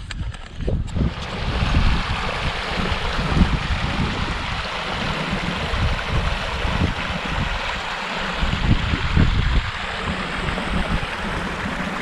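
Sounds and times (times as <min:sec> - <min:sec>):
stream running over stones: 0:00.0 - 0:12.0
wind buffeting microphone: 0:00.0 - 0:12.0.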